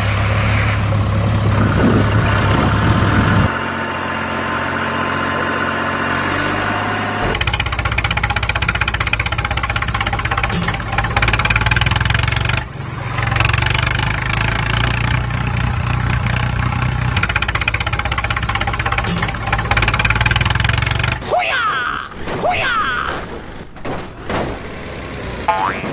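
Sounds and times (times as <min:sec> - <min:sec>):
heavy engine chugging: 0:00.0 - 0:25.9.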